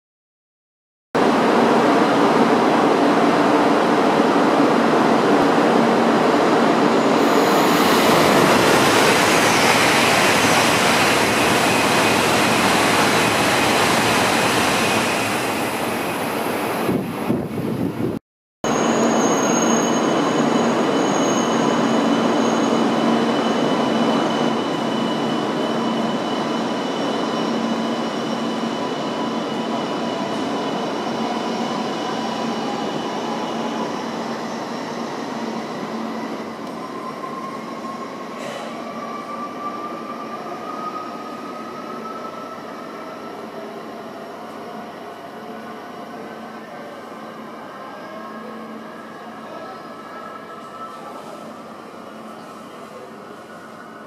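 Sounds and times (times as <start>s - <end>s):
train rushing roar: 1.2s - 49.5s
train hum with whining tones: 1.2s - 54.0s.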